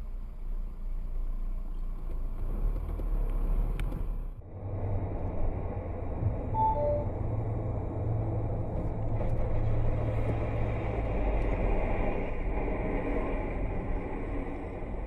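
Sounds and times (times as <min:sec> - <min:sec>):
car driving interior rumble: 0:00.0 - 0:15.0.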